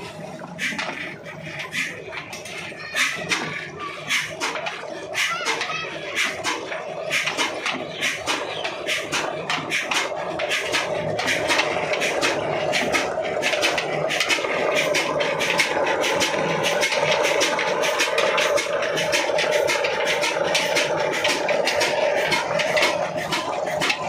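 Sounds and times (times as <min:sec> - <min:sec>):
belts and pulleys humming: 0:00.0 - 0:24.0
diesel engine running: 0:00.0 - 0:24.0.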